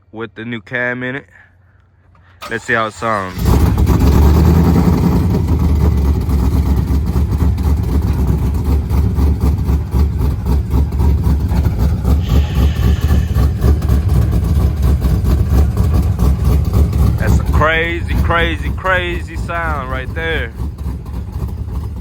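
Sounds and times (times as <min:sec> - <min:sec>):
car engine lopey idle: 0:02.1 - 0:22.0.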